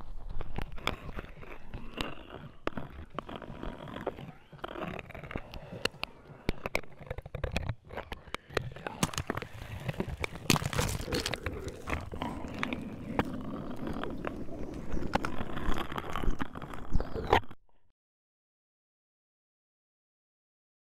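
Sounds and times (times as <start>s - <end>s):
dense crackling and crunching: 0.0s - 17.6s.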